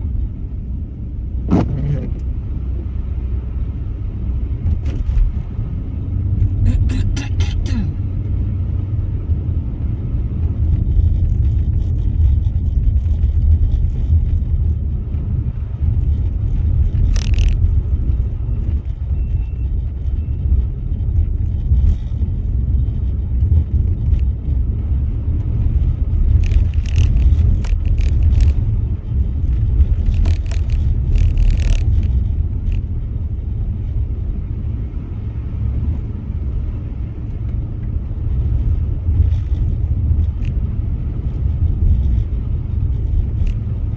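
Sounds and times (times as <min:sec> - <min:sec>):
car driving on snow rumble: 0:00.0 - 0:43.9.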